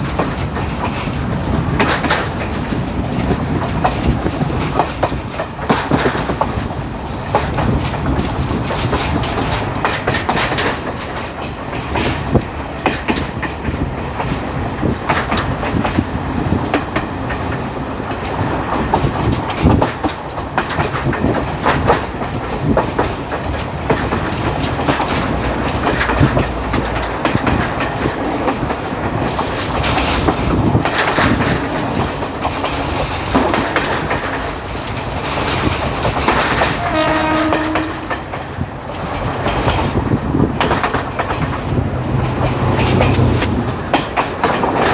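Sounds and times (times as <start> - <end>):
train rumbling on track: 0.0 - 44.9
wheels clacking over rail joints: 0.0 - 44.9.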